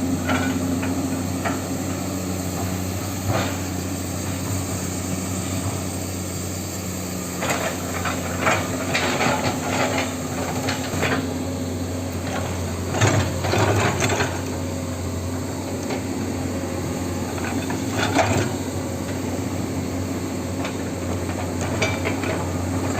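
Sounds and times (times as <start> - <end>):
excavator bucket clatter and scraping: 0.2 - 4.8, 7.3 - 19.6, 20.3 - 22.9.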